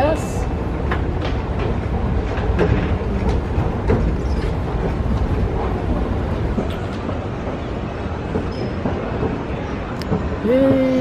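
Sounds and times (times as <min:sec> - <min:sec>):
escalator rumbling: 0:00.0 - 0:11.0.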